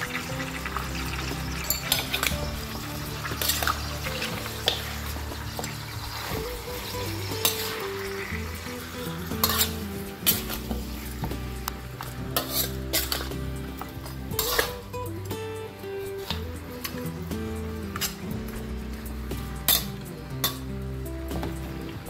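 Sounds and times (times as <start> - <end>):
metal ladle scraping a wok: 0.0 - 15.2, 16.1 - 20.7
oil sizzling: 0.0 - 22.0.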